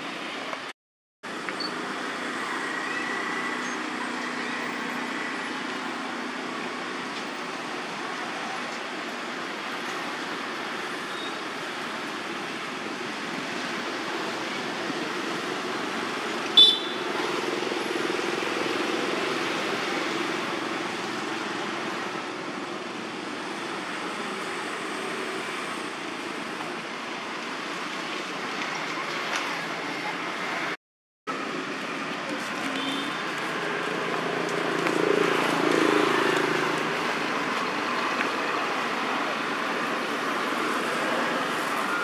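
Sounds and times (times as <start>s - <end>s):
outdoor background noise: 0.0s - 42.0s.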